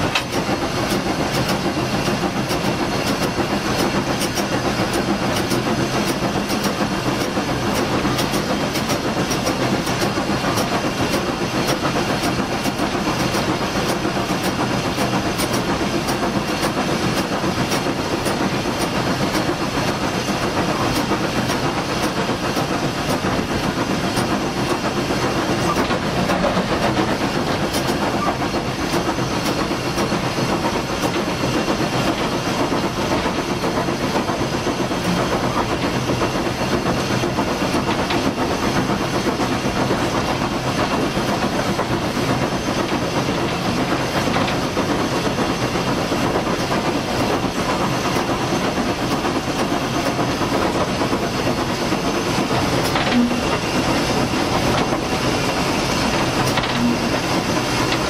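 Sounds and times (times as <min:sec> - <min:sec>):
steam hiss: 0:00.0 - 0:58.0
steam locomotive engine running: 0:00.0 - 0:58.0
wheels clattering on rails: 0:00.0 - 0:58.0.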